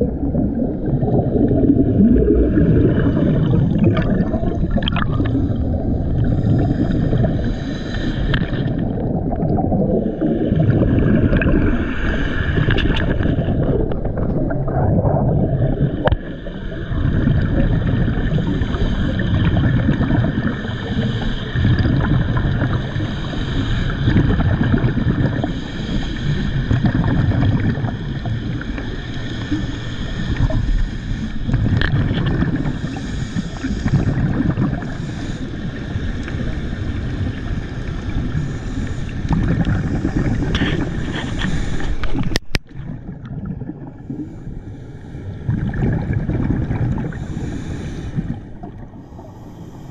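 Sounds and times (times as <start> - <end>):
faint steady hum: 0.0 - 49.9
underwater rushing rumble and bubbles: 0.0 - 49.9.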